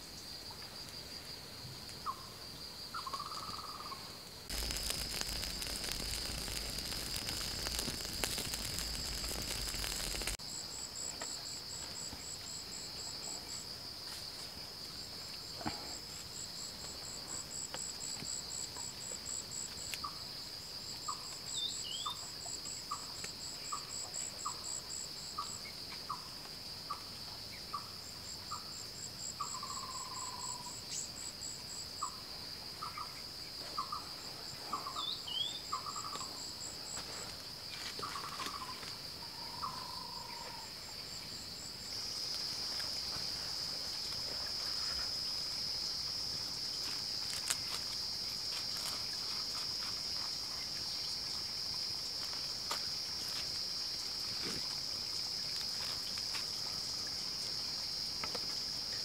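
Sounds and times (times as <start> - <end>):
insects droning trill: 0.0 - 59.0.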